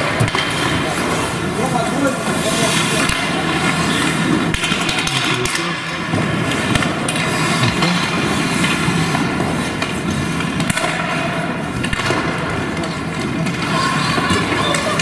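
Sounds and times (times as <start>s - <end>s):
hockey sticks and puck clacking: 0.0s - 15.0s
skate blades scraping ice: 0.0s - 15.0s.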